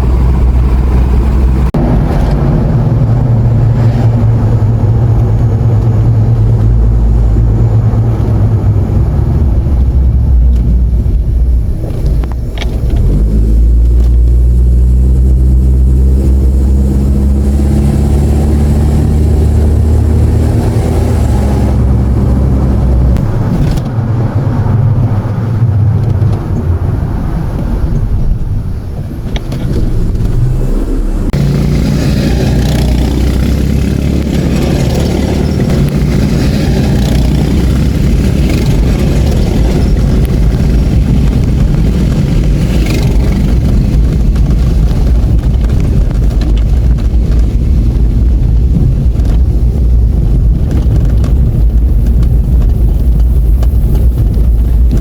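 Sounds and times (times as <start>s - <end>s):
car engine rising and falling: 0.0s - 55.0s
road noise: 0.0s - 55.0s.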